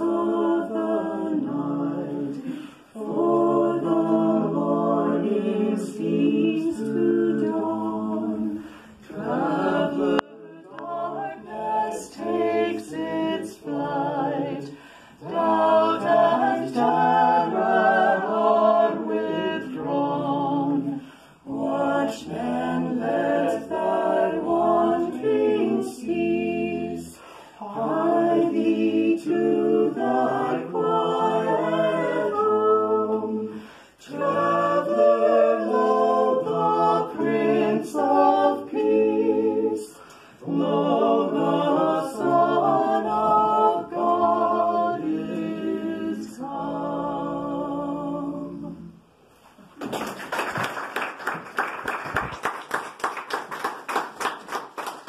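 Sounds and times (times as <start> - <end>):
vocal ensemble singing carol: 0.0 - 49.7.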